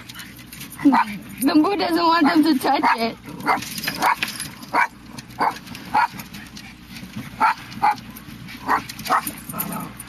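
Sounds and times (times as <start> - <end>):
small dogs yapping: 0.0 - 1.3, 2.1 - 10.0.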